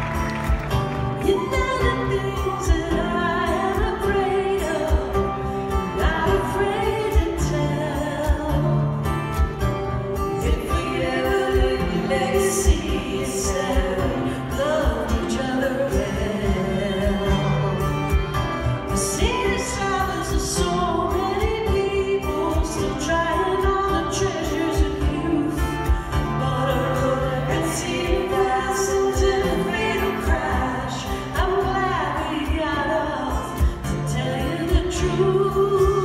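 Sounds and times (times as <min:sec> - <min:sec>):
person singing: 0:00.0 - 0:09.4, 0:10.2 - 0:36.0
acoustic guitars playing: 0:00.0 - 0:36.0.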